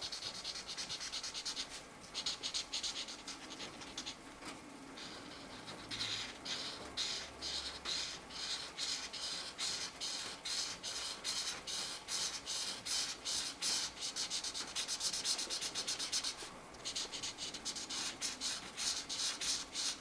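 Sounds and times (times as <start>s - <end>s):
marker scratching on paper: 0.1s - 4.2s, 5.0s - 20.0s.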